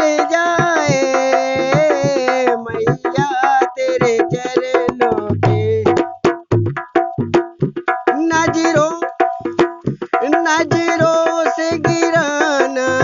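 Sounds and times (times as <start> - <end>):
hand drum rhythm: 0.0 - 13.0.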